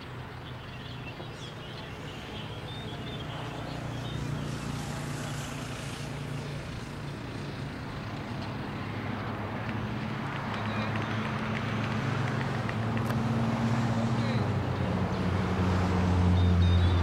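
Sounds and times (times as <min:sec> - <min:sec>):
engine humming: 0:00.0 - 0:17.0
outdoor background noise: 0:00.0 - 0:17.0.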